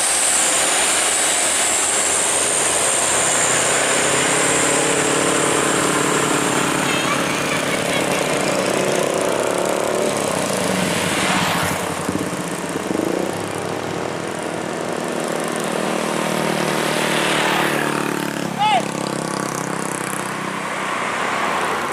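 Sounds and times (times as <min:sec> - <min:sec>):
diesel truck engines labouring: 0:00.0 - 0:21.9
tyre and road noise: 0:00.0 - 0:21.9
vehicle passing close: 0:00.0 - 0:21.9.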